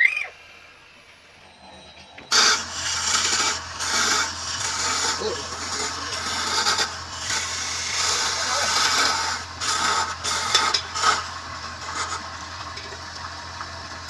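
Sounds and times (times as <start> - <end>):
lathe motor hum: 0.4 - 14.0
tool scraping spinning wood: 1.4 - 14.0.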